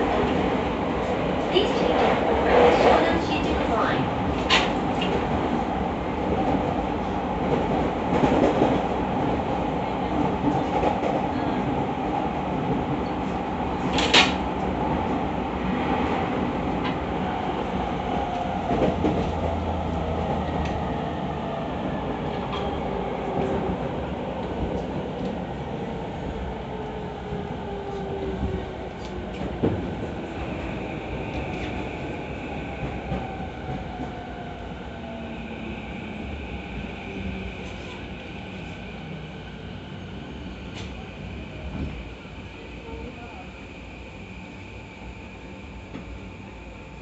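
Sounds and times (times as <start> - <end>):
train wheel-on-rail rumble: 0.0 - 47.0.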